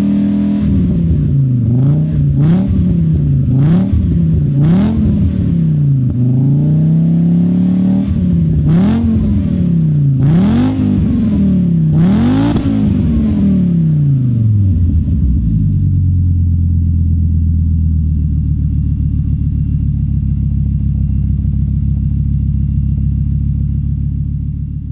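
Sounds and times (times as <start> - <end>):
car engine revving and idling: 0.0 - 24.9.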